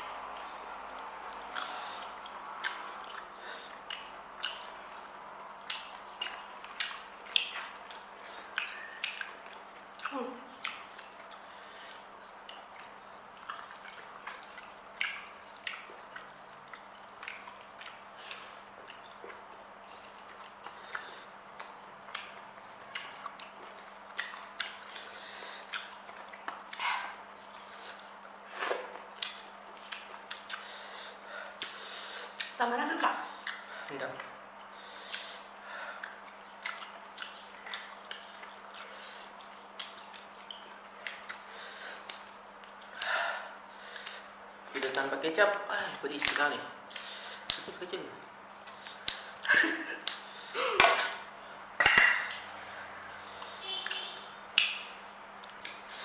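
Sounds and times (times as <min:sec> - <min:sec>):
chewing and wet mouth noises: 0:00.0 - 0:56.0
steady low hum: 0:00.0 - 0:56.0.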